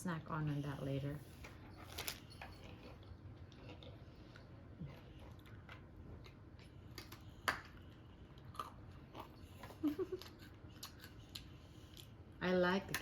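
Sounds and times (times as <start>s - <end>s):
chewing and crunching cookie: 0.2s - 13.0s.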